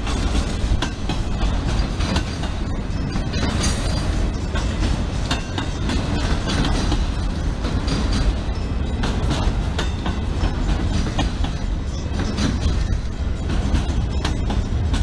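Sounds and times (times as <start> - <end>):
freight train rumbling: 0.0 - 15.0
wheels clicking over rail joints: 0.0 - 15.0.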